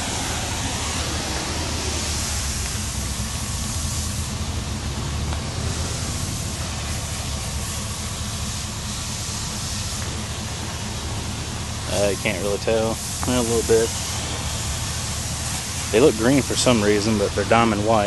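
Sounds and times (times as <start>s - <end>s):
even hiss: 0.0s - 18.0s
truck engine idling: 0.0s - 18.0s.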